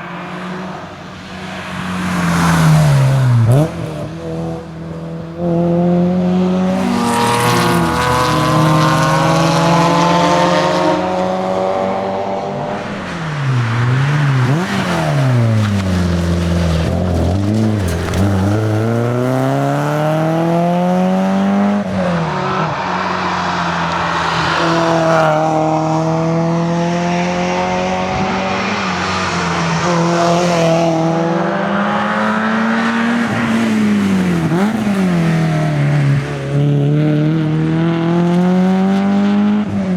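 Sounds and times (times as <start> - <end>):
car engine revving hard: 2.0 - 39.9.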